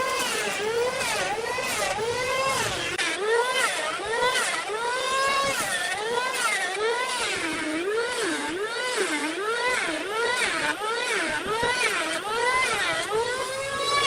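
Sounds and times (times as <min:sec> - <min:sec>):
power tool motor running: 0:00.0 - 0:14.0.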